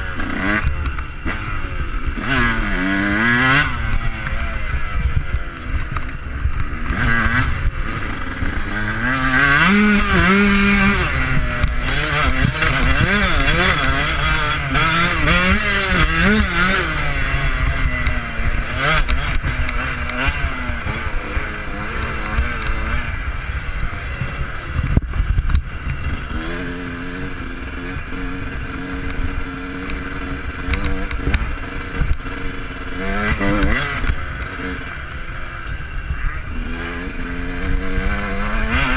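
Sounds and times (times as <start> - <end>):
dirt bike engine revving: 0.0 - 38.9
wind rumble on camera: 0.2 - 38.9.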